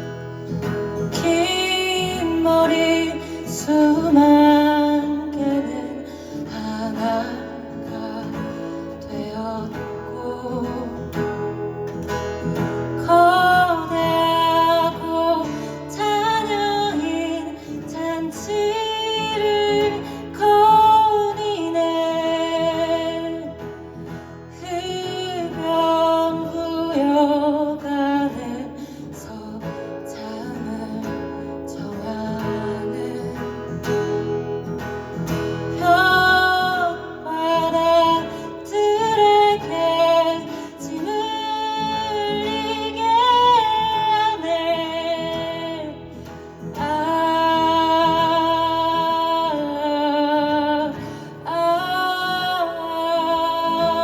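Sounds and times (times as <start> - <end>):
acoustic guitar playing: 0.0 - 54.0
person singing: 1.0 - 11.5, 13.0 - 23.7, 24.5 - 33.8, 35.7 - 54.0.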